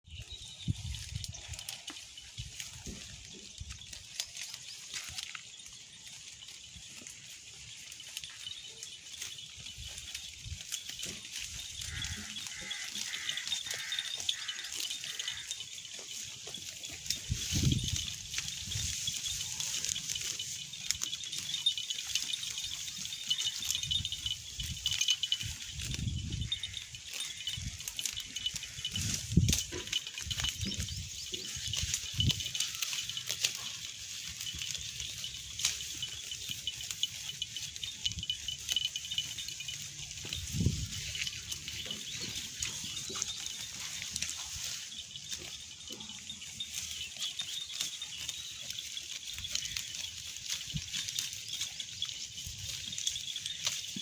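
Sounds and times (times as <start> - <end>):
sheep tearing and chewing grass: 0.1 - 54.0.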